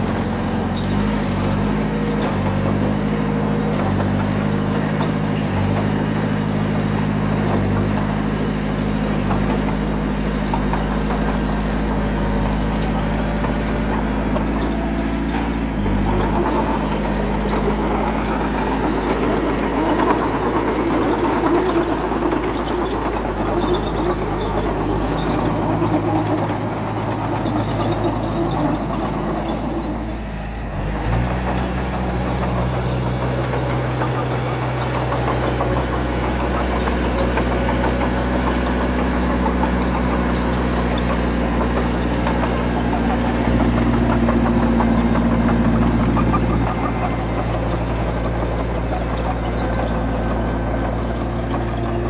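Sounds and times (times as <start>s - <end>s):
heavy diesel engine under load: 0.0s - 52.0s.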